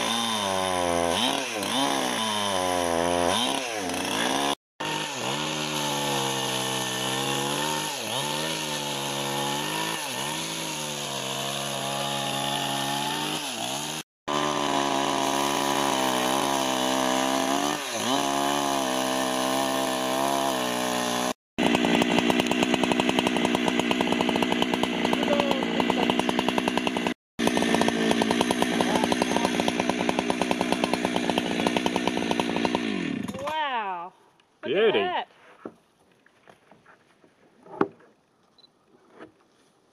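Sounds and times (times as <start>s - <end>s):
chainsaw cutting through log: 0.0s - 33.7s.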